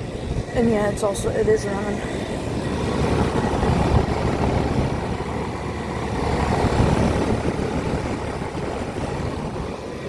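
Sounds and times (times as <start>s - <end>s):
compressor low hum: 0.0s - 10.0s
condenser fan air rushing: 0.0s - 10.0s.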